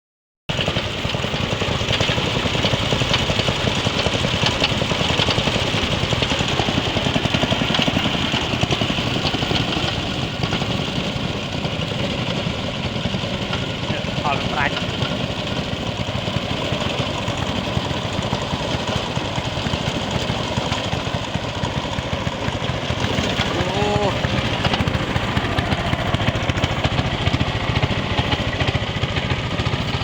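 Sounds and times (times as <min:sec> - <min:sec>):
small engine running: 0:00.5 - 0:30.0.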